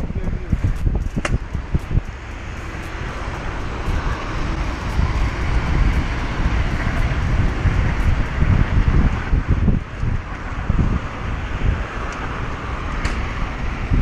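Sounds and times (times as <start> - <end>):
traffic rumble: 0.0 - 14.0
wind rushing over microphone: 0.0 - 14.0.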